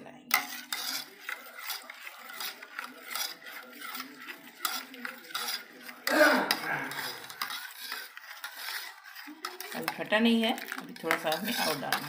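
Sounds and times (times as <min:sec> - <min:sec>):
metal spoon stirring in steel bowl: 0:00.0 - 0:12.0.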